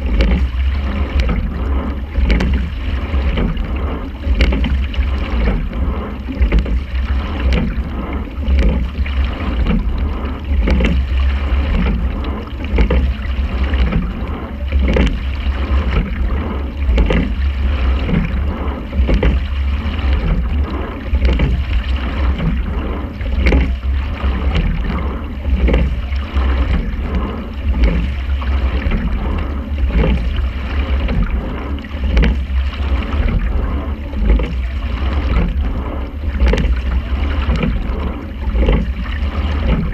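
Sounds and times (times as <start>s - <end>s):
low rumble of water and wind: 0.0s - 39.9s
oars and oarlocks knocking: 0.0s - 39.9s.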